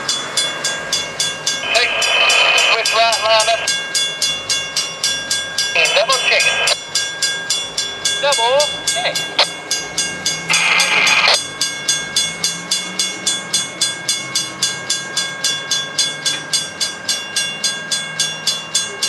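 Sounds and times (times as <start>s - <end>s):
crossing warning bell: 0.0s - 19.0s.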